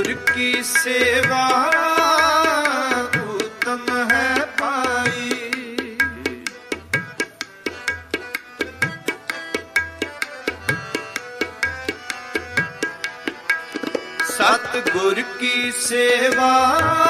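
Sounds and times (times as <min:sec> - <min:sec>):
harmonium notes: 0:00.0 - 0:17.0
tabla playing: 0:00.0 - 0:17.0.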